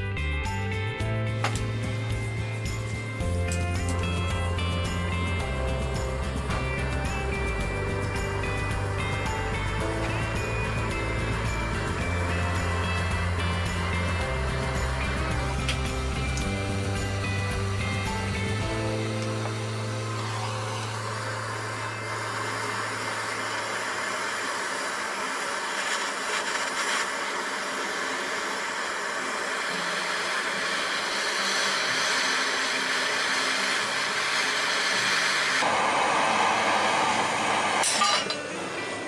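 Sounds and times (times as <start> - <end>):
torch flame hissing: 1.6 - 38.0.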